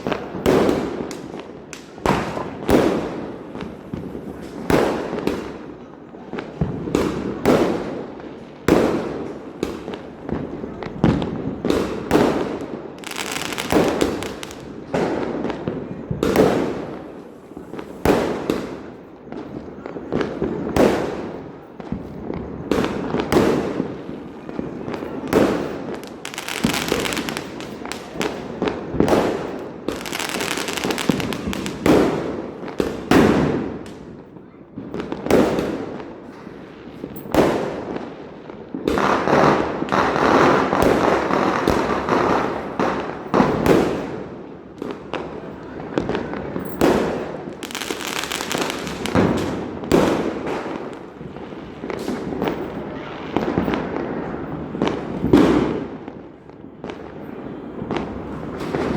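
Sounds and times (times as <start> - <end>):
firecrackers banging: 0.0 - 58.9.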